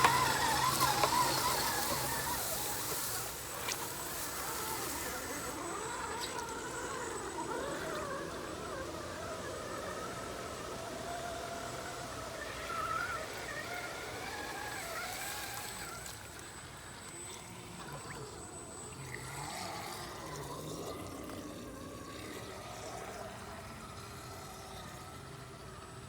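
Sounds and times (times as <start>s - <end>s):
water trickling and splashing: 0.0s - 25.8s
electric motor whining: 0.0s - 26.0s.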